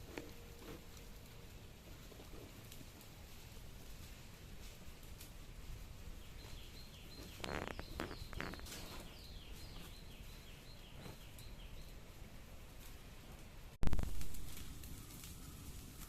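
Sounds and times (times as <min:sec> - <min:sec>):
fire hissing: 0:00.0 - 0:11.5, 0:13.8 - 0:16.0
fire crackles and pops: 0:00.0 - 0:16.0.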